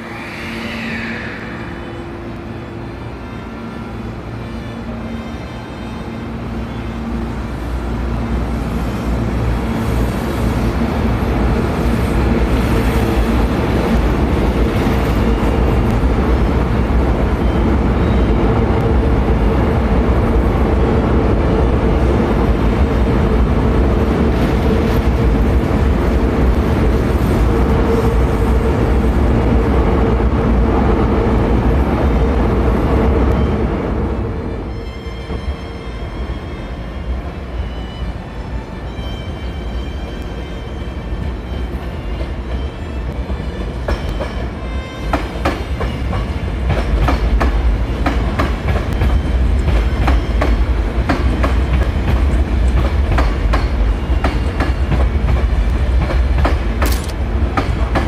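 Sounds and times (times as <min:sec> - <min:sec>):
electric train passing: 0:00.0 - 0:58.0.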